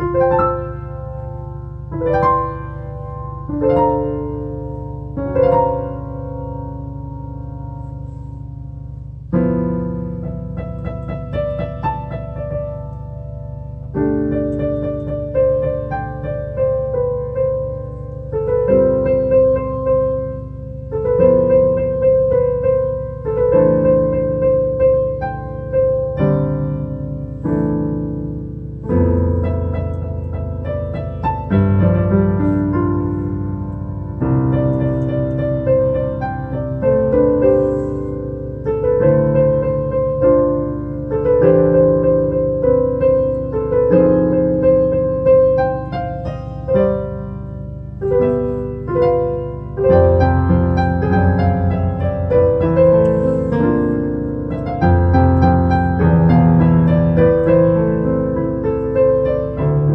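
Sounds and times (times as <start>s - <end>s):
slow solo piano music: 0.0s - 59.9s.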